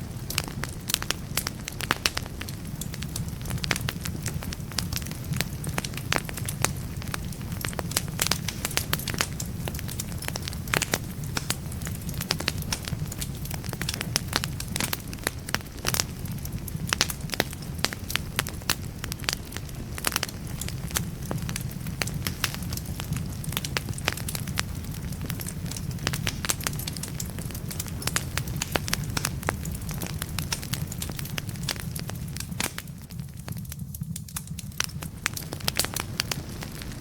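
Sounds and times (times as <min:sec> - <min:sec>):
fireplace fire crackling and popping: 0:00.0 - 0:37.0.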